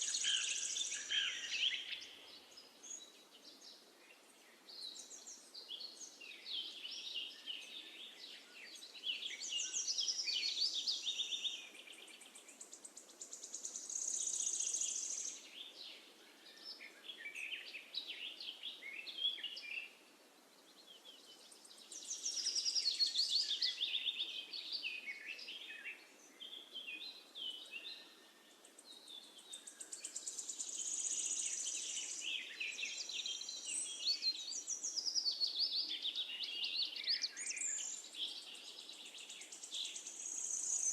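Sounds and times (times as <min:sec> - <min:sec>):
faint steady hiss: 0:00.0 - 0:40.9
songbirds chirping and trilling: 0:00.0 - 0:40.9.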